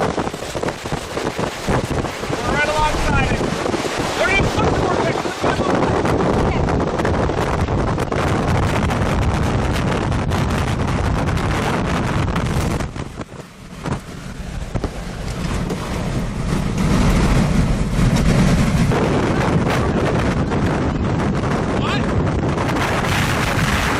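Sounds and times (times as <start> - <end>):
strong wind buffeting microphone: 0.0 - 23.9.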